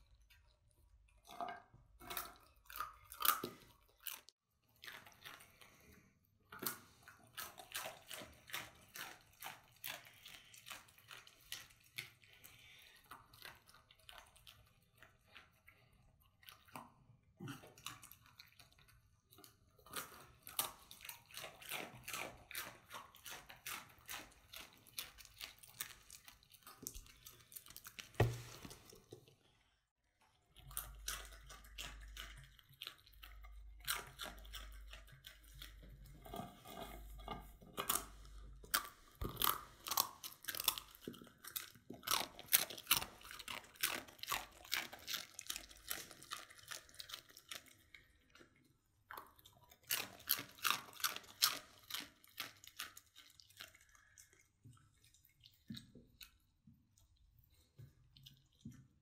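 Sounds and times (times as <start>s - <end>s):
dog crunching dry noodles: 1.2s - 5.8s, 6.6s - 15.5s, 17.5s - 29.3s, 30.5s - 56.4s.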